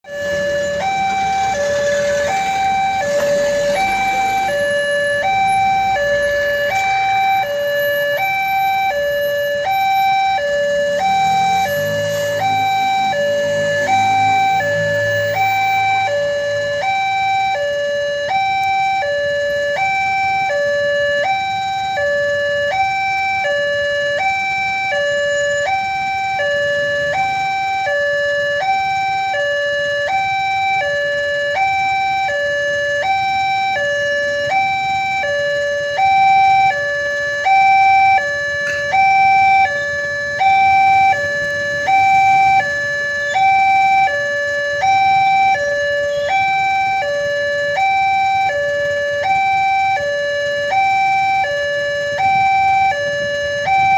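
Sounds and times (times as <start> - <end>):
level crossing alarm two tones: 0.0 - 53.9.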